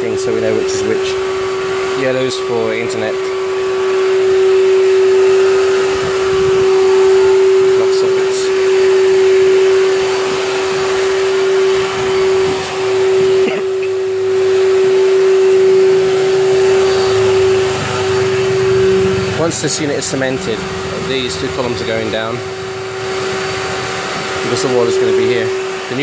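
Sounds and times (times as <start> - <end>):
motor humming: 0.0 - 26.0
rushing noise: 0.0 - 26.0.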